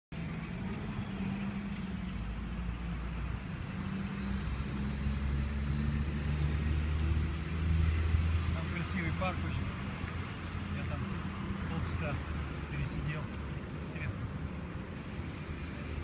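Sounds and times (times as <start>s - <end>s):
vehicle engine humming: 0.1s - 16.0s.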